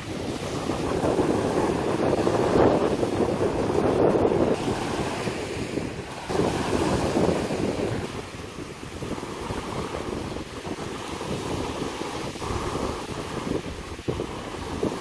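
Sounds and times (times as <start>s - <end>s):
small waves washing on sand: 0.0s - 15.0s
wind on the microphone: 0.0s - 15.0s.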